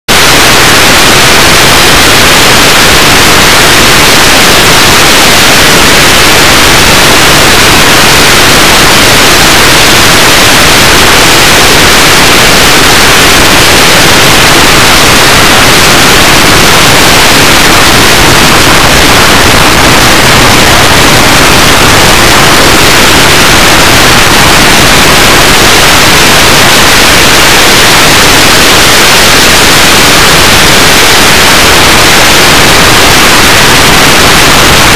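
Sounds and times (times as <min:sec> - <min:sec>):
loud static hiss: 0:00.0 - 0:34.9.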